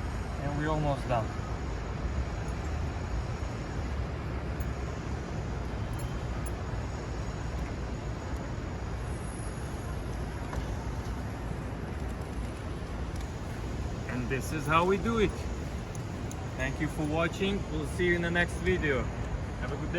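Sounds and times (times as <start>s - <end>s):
city traffic rumble: 0.0s - 19.9s.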